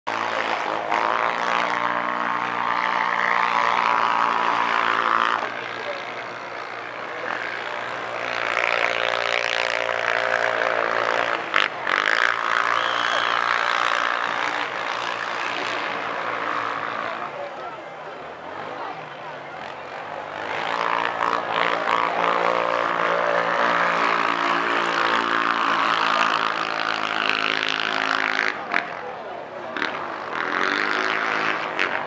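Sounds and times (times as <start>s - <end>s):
motor engine droning: 0.1s - 32.0s.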